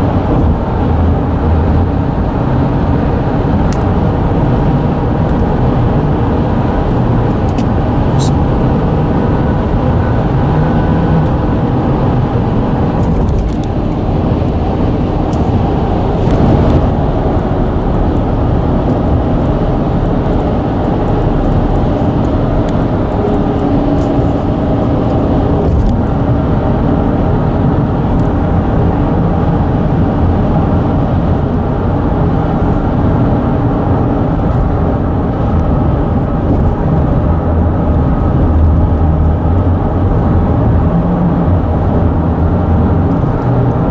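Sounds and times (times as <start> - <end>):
traffic rumble on a bridge: 0.0 - 43.9.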